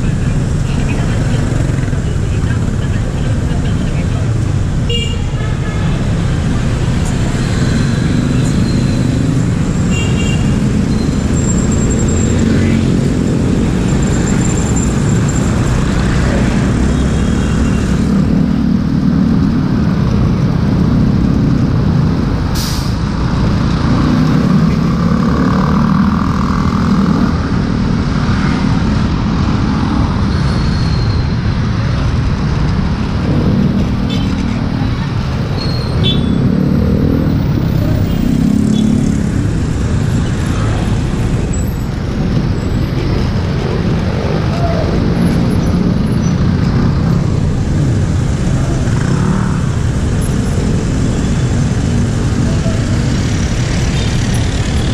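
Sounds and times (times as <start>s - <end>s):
motorbikes and cars in traffic: 0.0s - 54.9s
road noise: 0.0s - 54.9s.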